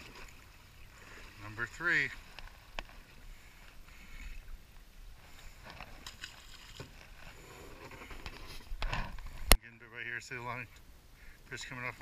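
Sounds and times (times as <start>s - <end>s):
water and breeze around boat: 0.0s - 12.0s.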